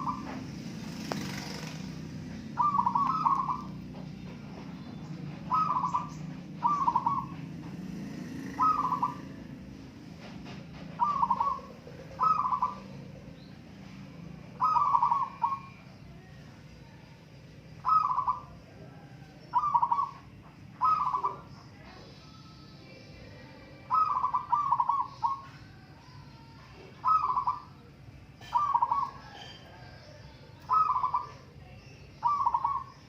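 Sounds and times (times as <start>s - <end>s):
doves cooing: 0.0s - 16.6s, 17.5s - 22.1s, 23.8s - 25.9s, 26.8s - 33.0s.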